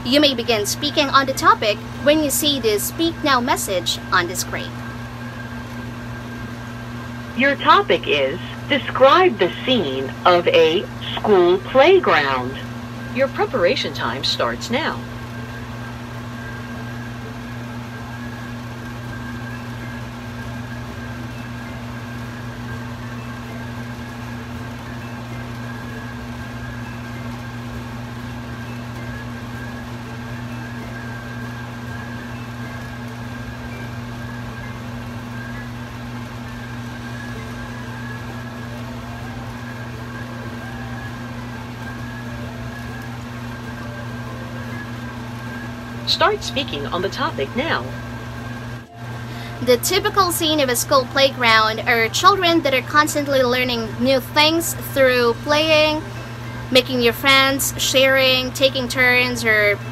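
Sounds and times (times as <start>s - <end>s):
faint high whine: 0.0s - 59.9s
low hum: 0.0s - 59.9s.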